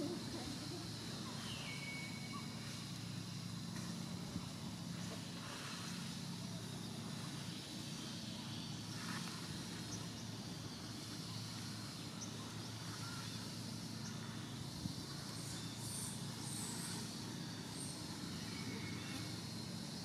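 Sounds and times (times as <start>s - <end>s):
constant low hum: 0.0s - 20.0s
even hiss: 0.0s - 20.0s.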